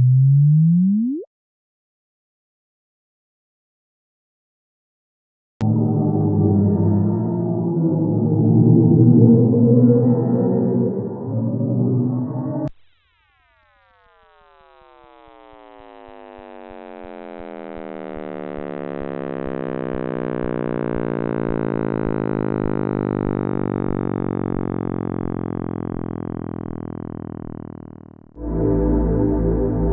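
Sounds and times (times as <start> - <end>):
eerie electronic drone: 5.6 - 29.9.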